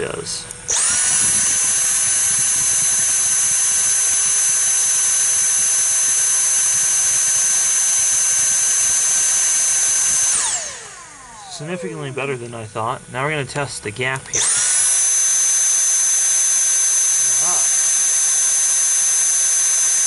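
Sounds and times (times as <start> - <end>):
stick vacuum motor whine: 0.0 - 20.0.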